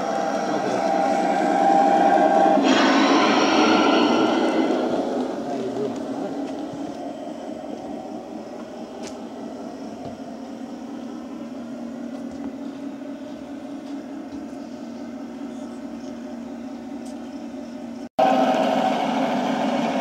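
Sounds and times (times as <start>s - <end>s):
model trains humming on track: 0.0s - 20.0s.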